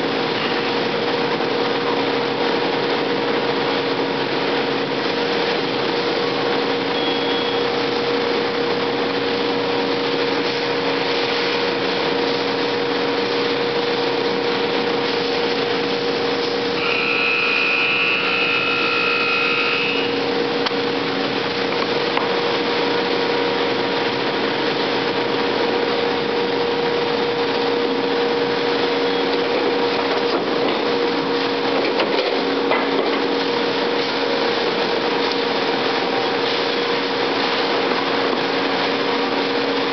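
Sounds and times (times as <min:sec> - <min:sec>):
high-pitched machine whine: 0:00.0 - 0:32.2
industrial machine humming: 0:00.0 - 0:39.9.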